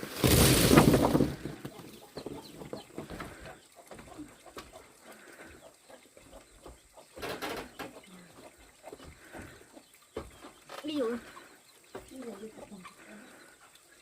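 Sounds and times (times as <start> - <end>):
chickens clucking: 0.1 - 14.0.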